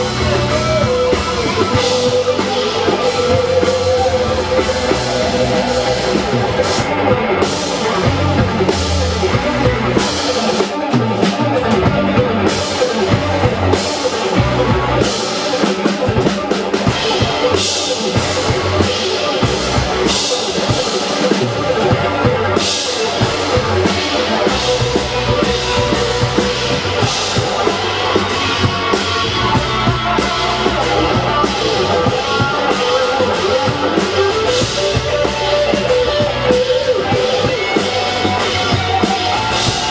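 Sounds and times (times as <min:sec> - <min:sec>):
pounding drum kit: 0:00.0 - 0:39.9
rock band playing live: 0:00.0 - 0:39.9.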